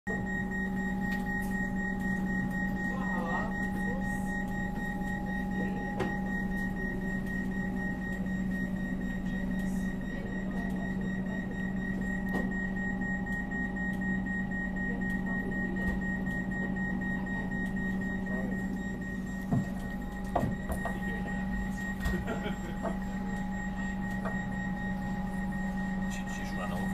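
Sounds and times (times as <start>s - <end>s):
electrical hum with high whine: 0.1s - 26.9s.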